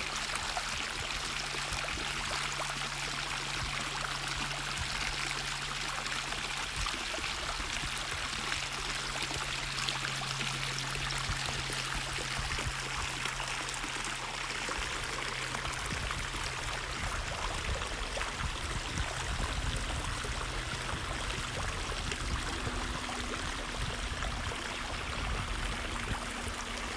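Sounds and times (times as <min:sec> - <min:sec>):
stream water flowing: 0:00.0 - 0:26.9.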